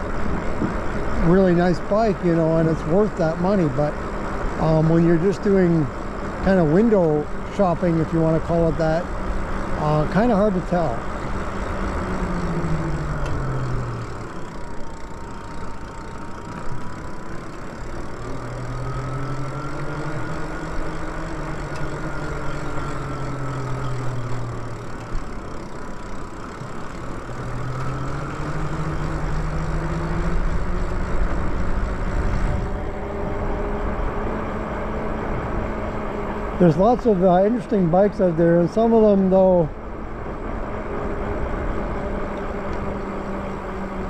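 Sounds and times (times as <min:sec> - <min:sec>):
electric bike motor whining: 0:00.0 - 0:44.0.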